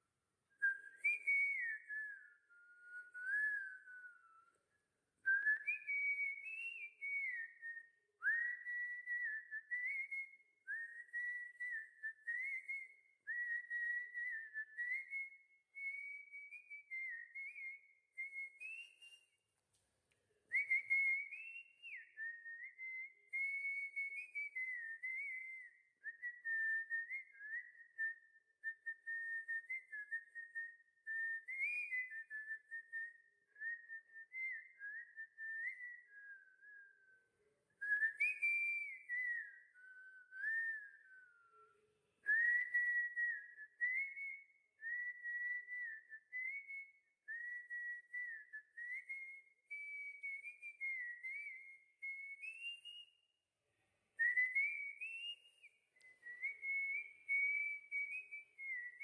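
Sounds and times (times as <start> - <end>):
person whistling a melody: 0.0 - 53.4, 54.2 - 59.0.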